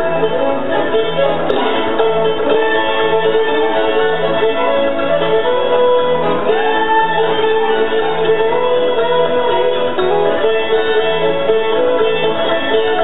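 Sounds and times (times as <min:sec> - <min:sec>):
country music: 0:00.0 - 0:13.0
fiddle: 0:00.0 - 0:13.0
guitar: 0:00.0 - 0:13.0.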